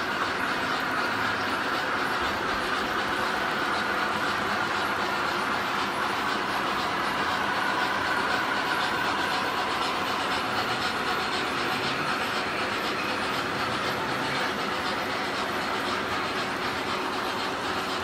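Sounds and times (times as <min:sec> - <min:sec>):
model trains running on track: 0:00.0 - 0:18.0.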